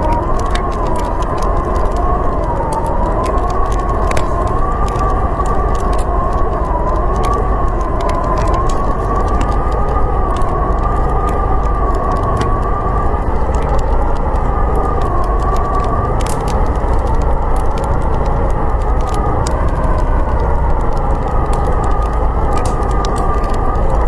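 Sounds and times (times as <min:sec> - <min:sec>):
howling blizzard wind: 0:00.0 - 0:24.0
wood fire crackling: 0:00.0 - 0:24.0.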